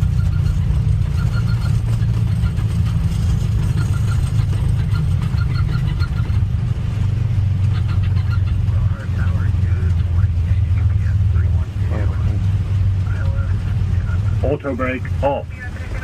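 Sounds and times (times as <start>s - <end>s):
aircraft engines rumbling: 0.0s - 16.0s
wheels rolling on runway: 0.0s - 16.0s.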